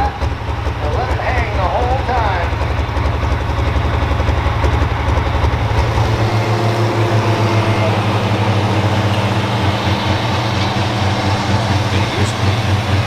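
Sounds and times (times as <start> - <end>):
diesel tractor engine running: 0.0 - 13.0
steady whine: 0.0 - 13.0.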